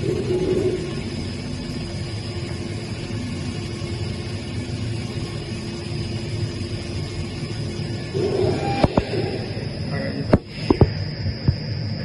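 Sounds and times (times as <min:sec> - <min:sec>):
faint high whine: 0:00.0 - 0:12.0
grinding machine humming: 0:00.0 - 0:12.0.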